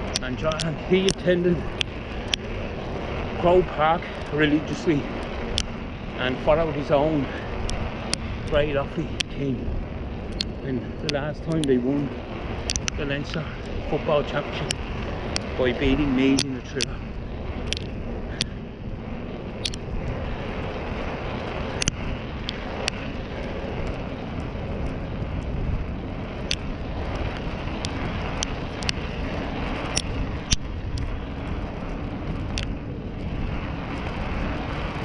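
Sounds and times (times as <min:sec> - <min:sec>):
road noise: 0:00.0 - 0:35.0
sharp clicks and rattles: 0:00.0 - 0:35.0
wind rushing over microphone: 0:00.0 - 0:35.0.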